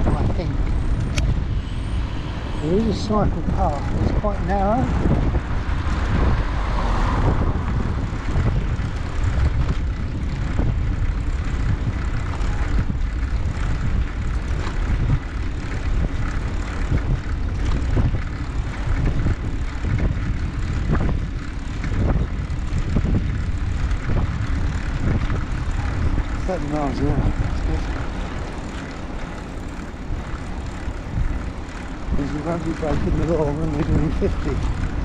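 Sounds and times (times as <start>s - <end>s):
tyres rolling on tarmac: 0.0s - 35.0s
wind buffeting microphone: 0.0s - 35.0s.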